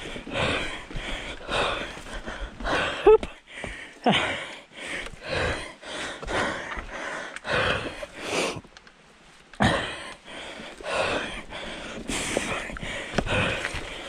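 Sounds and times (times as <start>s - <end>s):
person breathing hard: 0.0s - 8.6s, 9.6s - 14.0s.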